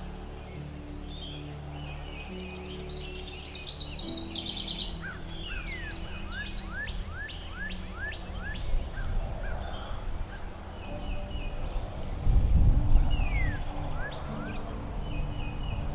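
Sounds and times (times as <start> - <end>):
low wind rumble: 0.0 - 15.9
songbird whistling: 0.4 - 11.8, 12.6 - 15.9.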